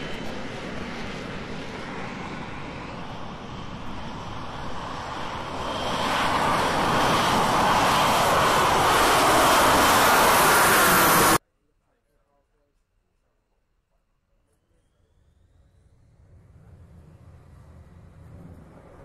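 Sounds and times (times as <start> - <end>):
jet engine rushing: 0.0 - 11.4, 14.6 - 19.0.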